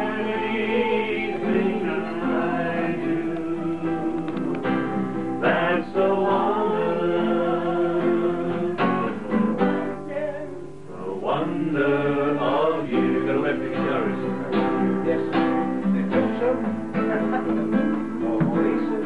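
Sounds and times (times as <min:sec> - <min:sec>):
men singing: 0:00.0 - 0:19.0
strummed acoustic guitar: 0:00.0 - 0:19.0.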